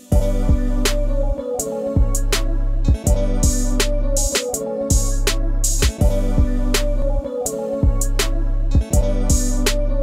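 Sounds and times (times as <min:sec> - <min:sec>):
repeating bass line: 0:00.1 - 0:01.4, 0:02.0 - 0:10.0.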